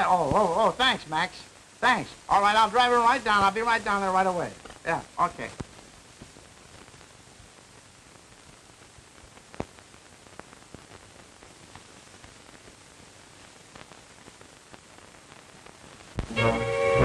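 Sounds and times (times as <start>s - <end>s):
film soundtrack hiss and crackle: 0.0s - 17.0s.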